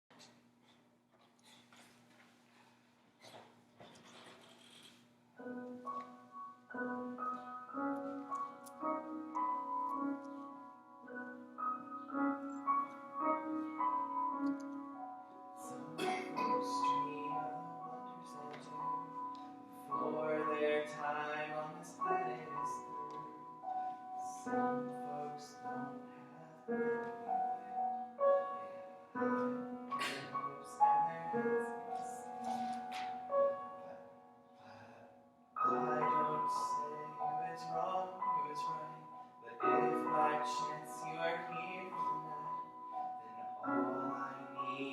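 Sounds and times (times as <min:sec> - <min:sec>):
slow piano chords and melody: 0:05.4 - 0:44.9.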